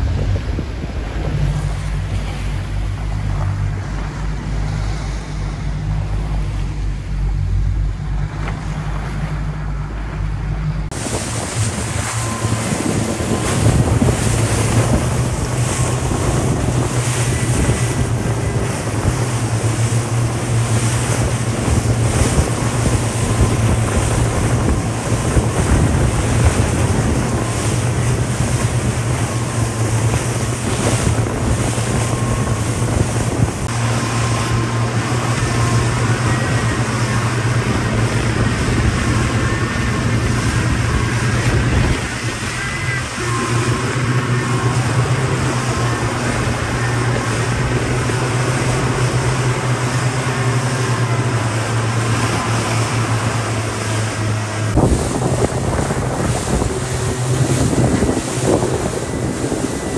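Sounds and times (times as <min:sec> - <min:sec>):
boat motor droning: 0:00.0 - 0:59.9
choppy sea water rushing: 0:00.0 - 0:59.9
wind buffeting microphone: 0:00.0 - 0:59.9.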